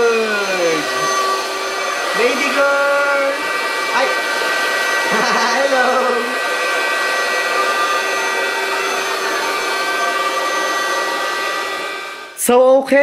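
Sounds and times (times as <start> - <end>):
electric air pump whirring: 0.0 - 12.4.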